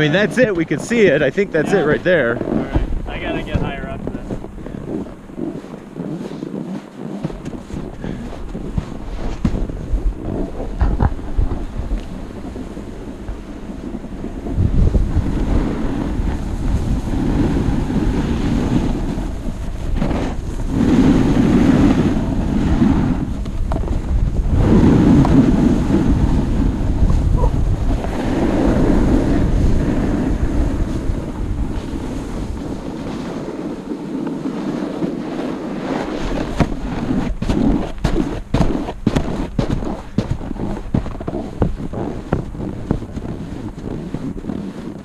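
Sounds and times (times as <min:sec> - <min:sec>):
ski edges scraping snow: 0:00.0 - 0:45.0
wind rushing over microphone: 0:00.0 - 0:45.0.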